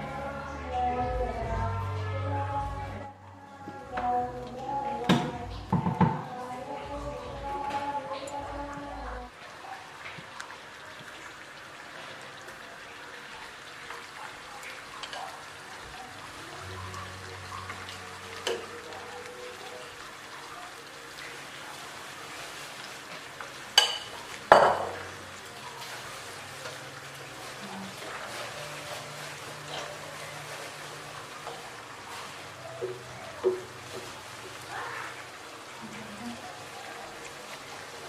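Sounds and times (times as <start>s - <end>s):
dough frying in oil: 4.4s - 38.0s.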